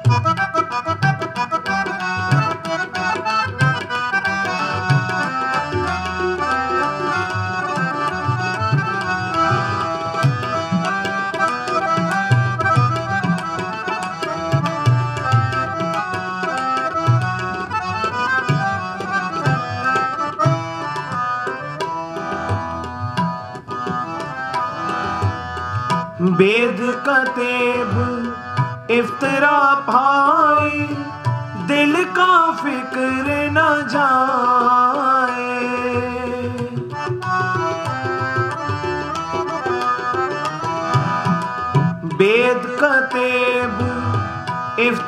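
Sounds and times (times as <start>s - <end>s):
harmonium melody: 0.0s - 45.0s
tabla rhythm: 0.0s - 45.0s.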